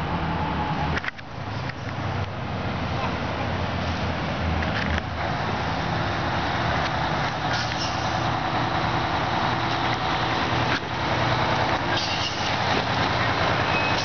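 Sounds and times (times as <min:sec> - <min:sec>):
fire engine diesel engine: 0:00.0 - 0:14.0.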